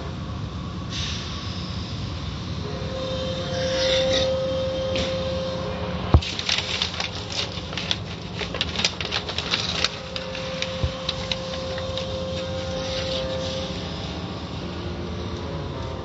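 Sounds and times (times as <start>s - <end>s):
faint steady whine: 0.0s - 16.0s
machinery hum: 0.0s - 16.0s.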